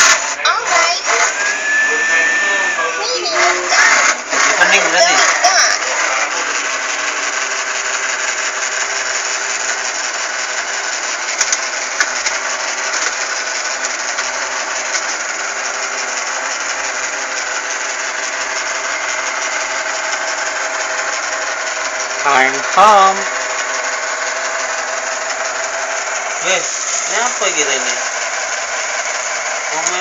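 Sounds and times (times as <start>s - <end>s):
robot vacuum cleaner motor: 0.0s - 30.0s.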